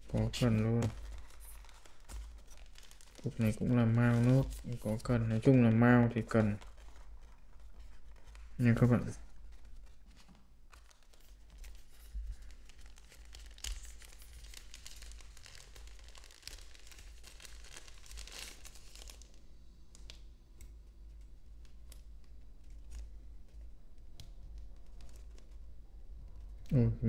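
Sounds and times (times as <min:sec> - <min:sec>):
packaging wrap crinkling: 0:00.0 - 0:26.8.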